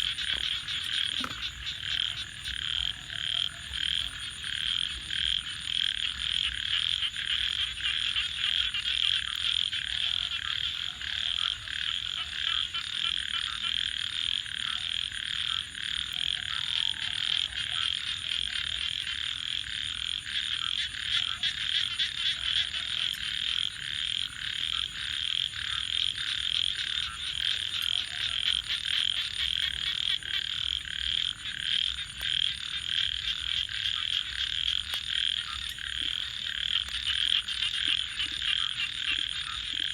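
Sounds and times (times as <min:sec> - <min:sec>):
frogs chorus trilling: 0:00.0 - 0:39.9.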